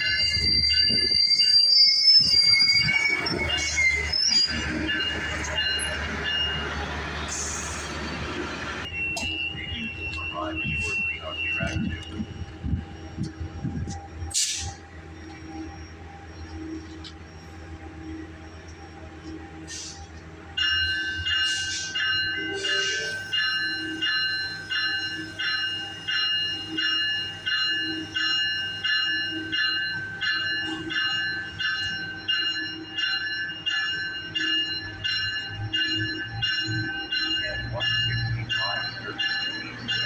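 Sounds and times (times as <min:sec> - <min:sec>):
train bell ringing: 0:00.0 - 0:40.0.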